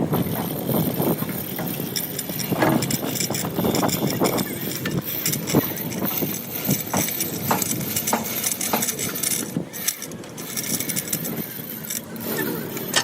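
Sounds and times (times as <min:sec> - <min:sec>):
constant background noise: 0:00.0 - 0:13.0.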